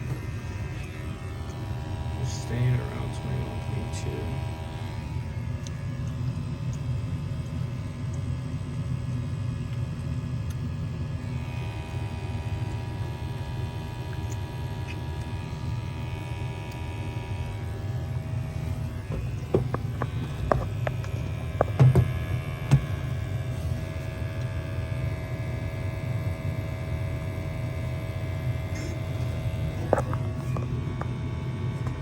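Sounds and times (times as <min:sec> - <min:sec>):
gas furnace rumbling: 0:00.0 - 0:13.9, 0:14.6 - 0:26.5.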